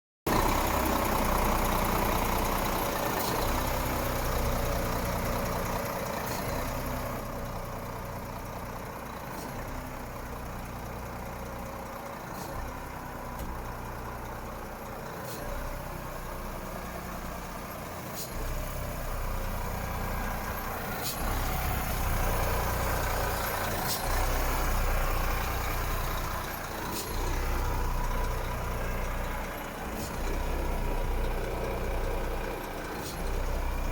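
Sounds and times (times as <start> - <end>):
truck diesel engine idling: 0.3 - 33.9.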